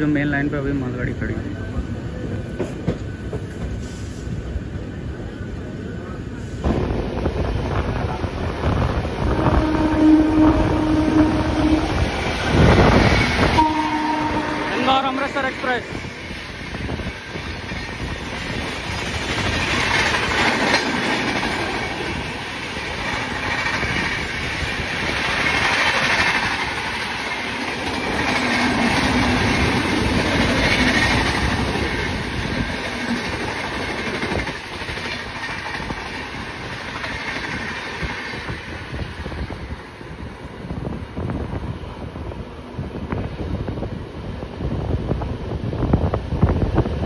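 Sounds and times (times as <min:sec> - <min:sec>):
train rolling roar: 0:00.0 - 0:47.0.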